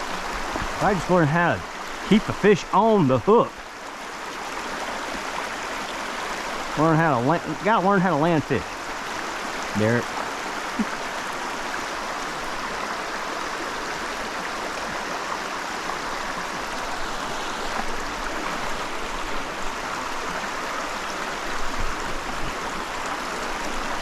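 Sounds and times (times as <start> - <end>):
water running over rocks: 0.0 - 24.0.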